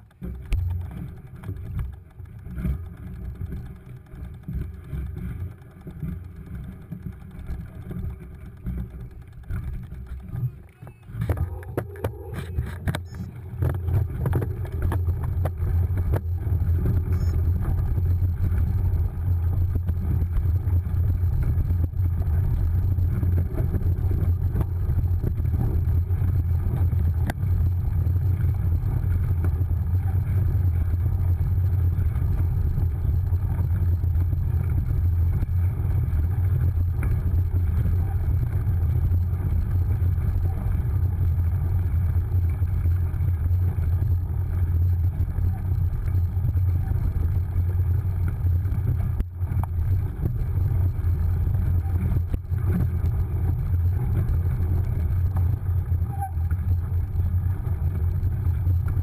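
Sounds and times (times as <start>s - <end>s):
bike riding on dirt track: 0.0s - 59.0s
wind buffeting microphone: 11.2s - 59.0s.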